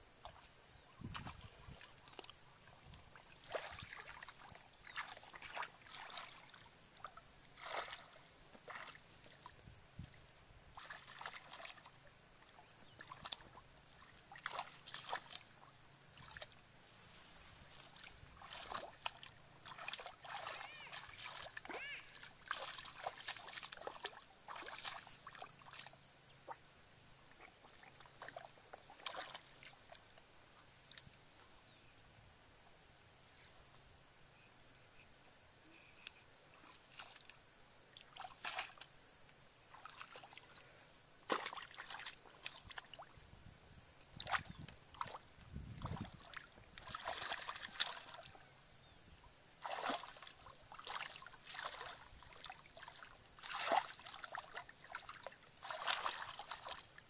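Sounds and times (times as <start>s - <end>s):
splashing in shallow muddy water: 0.0s - 16.7s, 17.6s - 31.3s, 35.7s - 57.0s.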